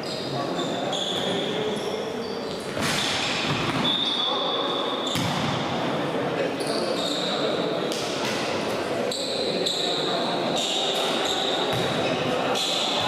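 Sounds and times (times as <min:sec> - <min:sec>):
shoes squeaking on court floor: 0:00.0 - 0:05.8, 0:06.5 - 0:07.6, 0:09.1 - 0:13.0
indoor hall noise: 0:00.0 - 0:13.0.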